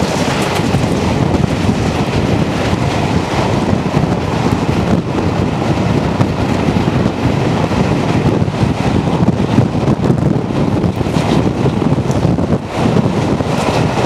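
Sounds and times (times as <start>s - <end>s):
steam train running: 0.0s - 14.0s
wind buffeting microphone: 0.0s - 14.0s.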